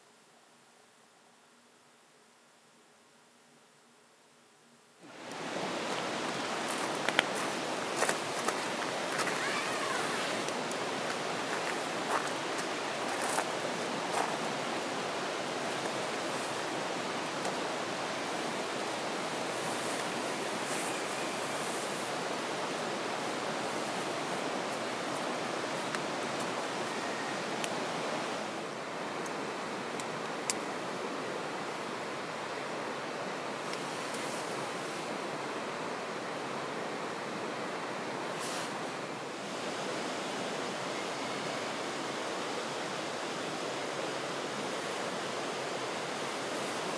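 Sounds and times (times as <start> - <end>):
river rushing: 5.0 - 46.9.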